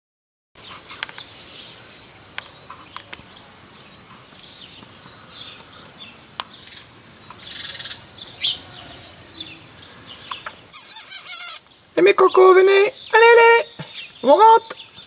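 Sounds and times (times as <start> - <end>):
faint outdoor hiss: 0.6 - 15.0
lovebirds chirping: 0.6 - 15.0.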